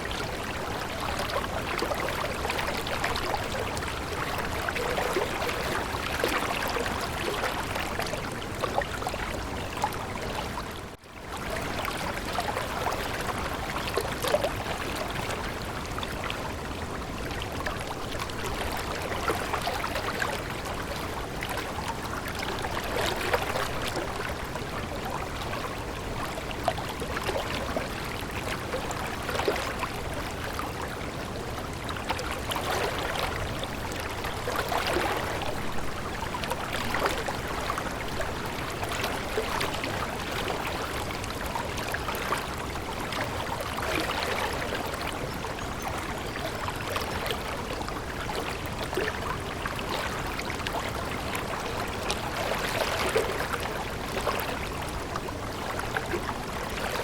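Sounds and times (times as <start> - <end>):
stream babbling and trickling: 0.0 - 57.0.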